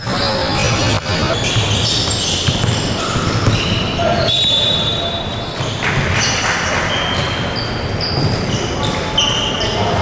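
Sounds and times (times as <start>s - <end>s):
shoes squeaking on wooden court: 0.0s - 10.0s.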